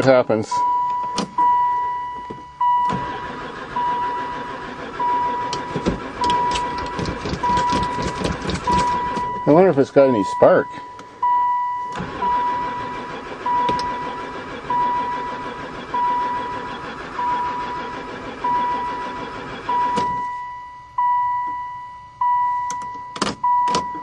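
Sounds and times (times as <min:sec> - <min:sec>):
dashboard warning chime: 0:00.3 - 0:24.0
van engine cranking on starter: 0:00.6 - 0:21.6, 0:22.2 - 0:24.0.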